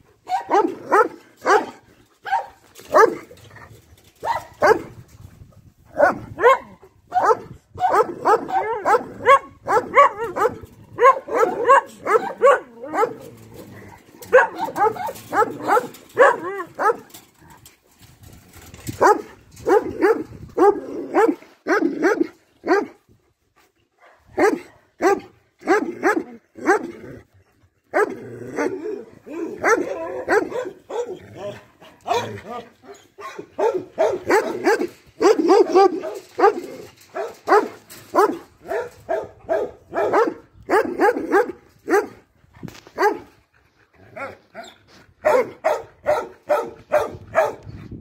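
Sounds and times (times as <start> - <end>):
dogs barking: 0.2 - 3.3, 4.2 - 4.9, 5.9 - 17.2, 18.9 - 23.0, 24.0 - 26.9, 27.9 - 42.2, 43.0 - 43.3, 45.2 - 47.7.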